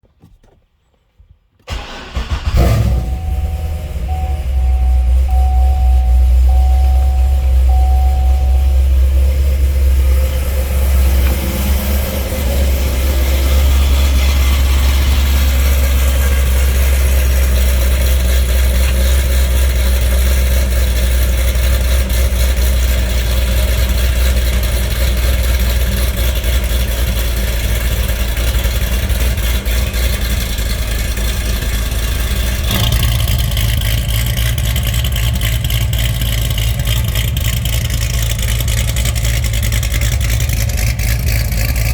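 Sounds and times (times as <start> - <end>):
car engine idling: 1.7 - 41.9.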